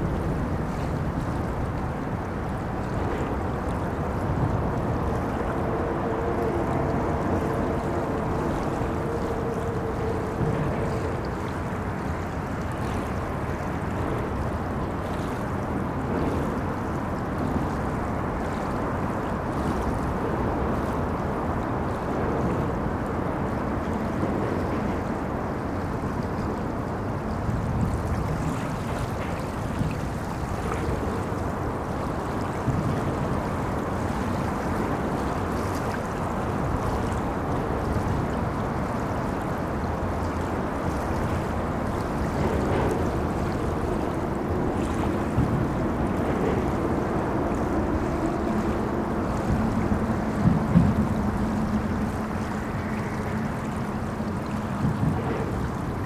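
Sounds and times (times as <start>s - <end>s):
river water moving: 0.0s - 56.0s.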